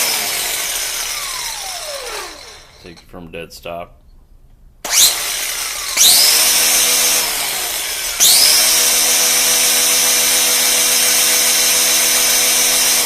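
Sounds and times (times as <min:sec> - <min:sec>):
angle grinder high whine: 0:00.0 - 0:03.0, 0:04.8 - 0:13.0.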